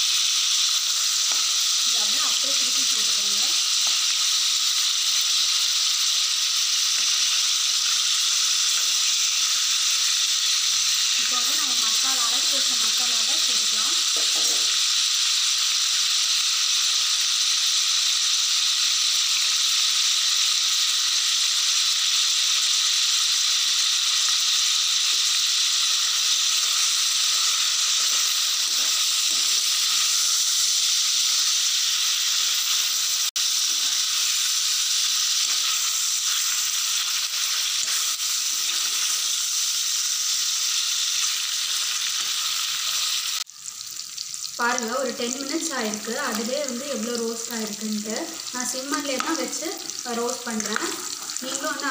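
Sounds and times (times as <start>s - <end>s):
chicken sizzling in oil: 0.0s - 51.9s.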